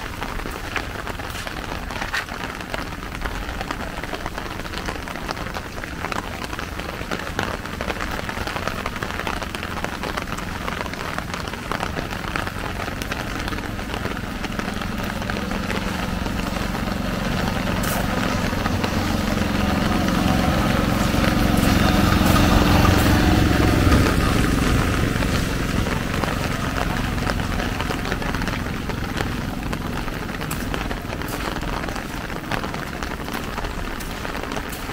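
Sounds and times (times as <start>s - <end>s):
low rumble: 0.0s - 34.9s
rain pattering: 0.0s - 34.9s.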